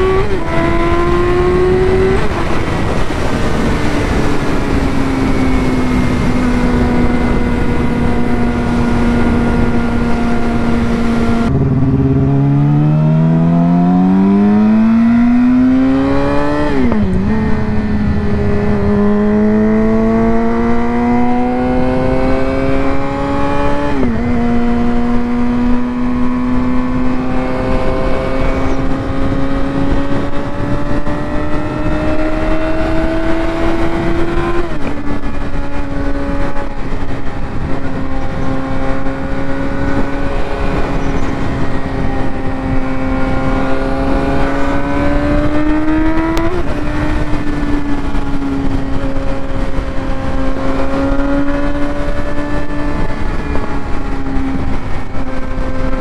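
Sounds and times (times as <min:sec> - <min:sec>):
motorcycle engine running hard: 0:00.0 - 0:56.0
wind rushing over microphone: 0:00.0 - 0:56.0.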